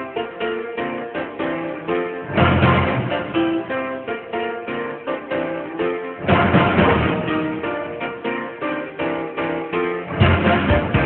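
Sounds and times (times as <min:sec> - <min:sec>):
plucked instrumental music: 0:01.0 - 0:11.0.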